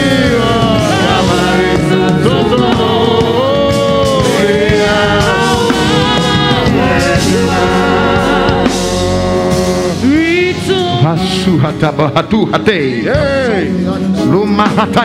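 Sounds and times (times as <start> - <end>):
instrumental accompaniment: 0.0 - 15.0
voices singing gospel: 0.0 - 15.0.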